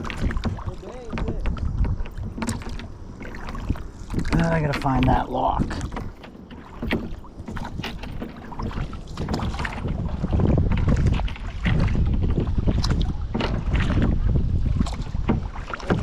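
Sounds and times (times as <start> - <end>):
paddle splashing in water: 0.0 - 16.0
wind rumbling on microphone: 0.0 - 16.0.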